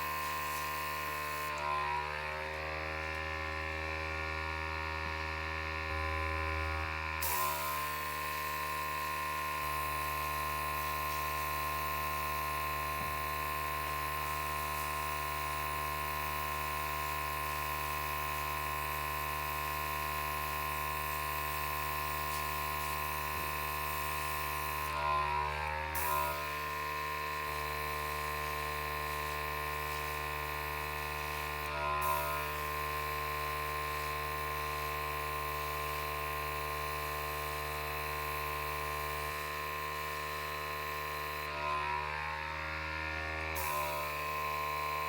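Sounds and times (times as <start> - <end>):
electric hum with whine: 0.0 - 45.0.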